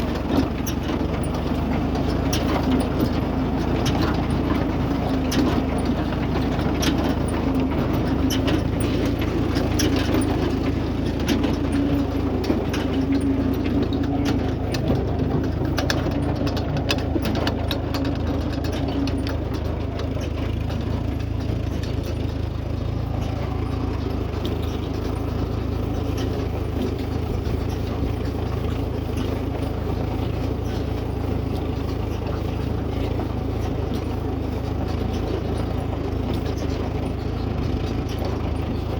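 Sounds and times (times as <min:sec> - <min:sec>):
baler engine hum: 0:00.0 - 0:38.9
rapid clicking and rattling: 0:00.0 - 0:38.9.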